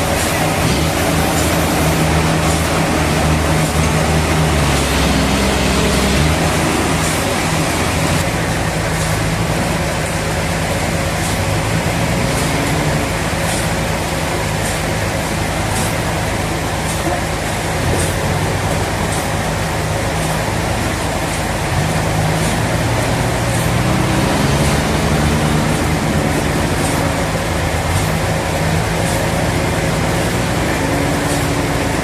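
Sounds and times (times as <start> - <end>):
continuous hiss: 0.0 - 32.0
sawmill motor drone: 0.0 - 32.0.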